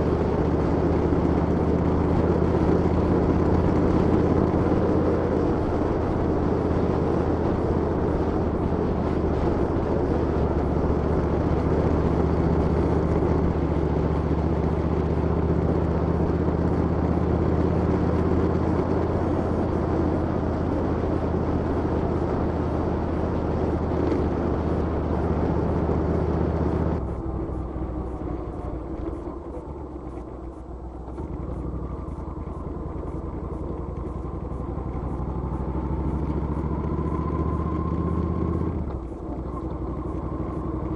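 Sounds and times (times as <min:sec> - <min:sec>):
motorcycle engines humming: 0:00.0 - 0:40.9.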